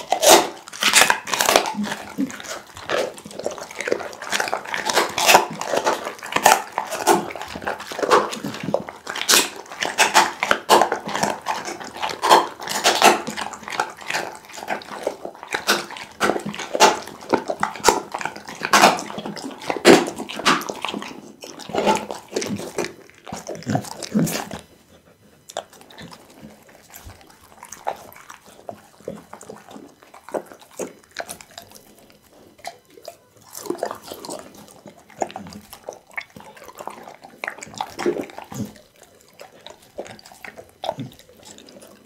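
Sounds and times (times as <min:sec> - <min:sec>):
dog chewing raw meat: 0:00.0 - 0:42.0.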